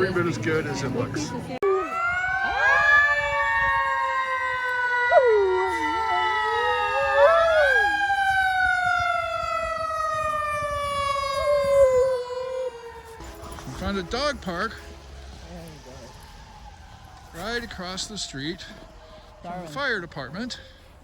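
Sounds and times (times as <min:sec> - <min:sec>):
wavering siren call: 0:01.6 - 0:20.9
fire siren wailing: 0:01.6 - 0:21.0.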